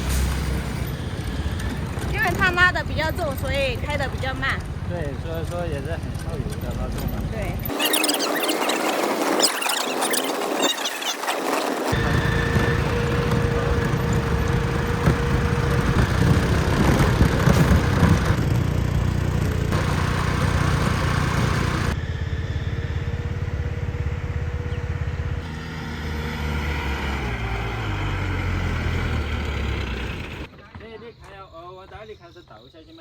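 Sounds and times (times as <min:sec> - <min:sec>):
truck engine driving uphill: 0:00.0 - 0:30.5.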